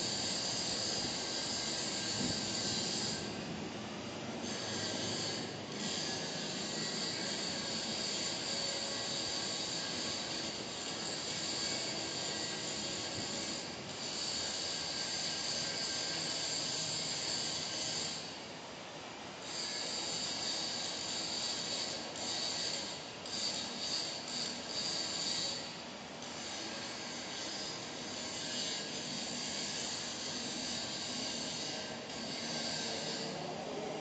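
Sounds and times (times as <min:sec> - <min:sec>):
arc welding crackle and hiss: 0:00.0 - 0:18.7, 0:19.3 - 0:34.0.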